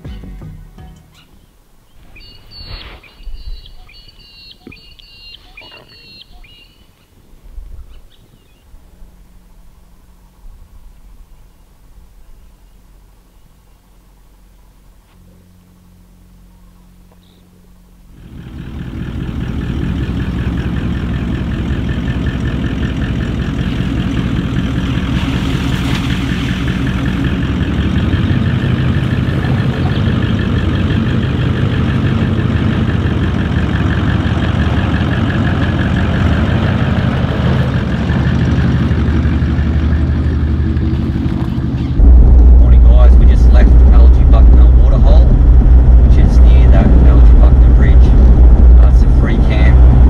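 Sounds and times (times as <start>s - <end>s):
vehicle engine running: 3.4s - 50.0s.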